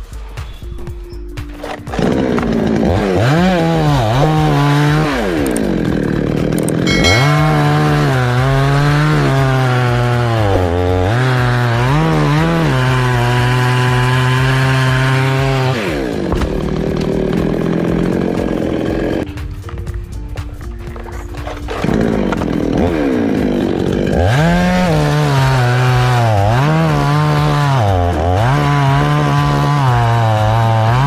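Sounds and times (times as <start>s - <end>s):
chainsaw cutting wood: 1.4s - 19.8s, 21.2s - 31.0s.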